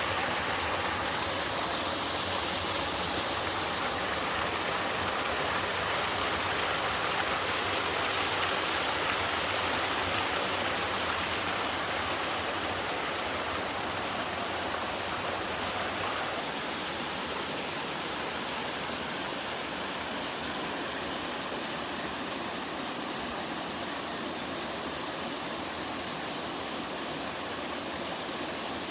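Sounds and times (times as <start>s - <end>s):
waterfall rushing and splashing: 0.0s - 28.9s.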